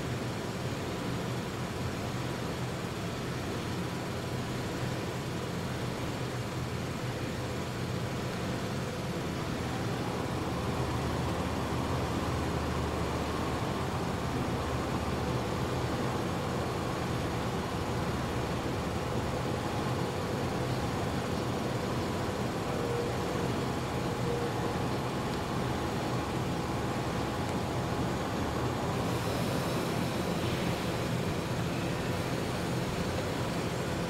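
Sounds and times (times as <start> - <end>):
faint steady tones: 0.0 - 34.0
train wash machine running: 0.0 - 34.0.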